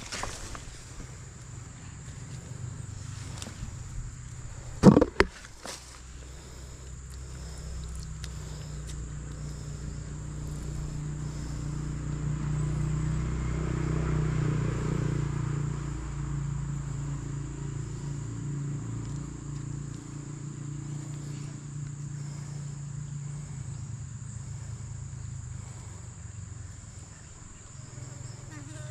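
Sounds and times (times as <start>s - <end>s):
motor engine humming: 0.0s - 28.9s.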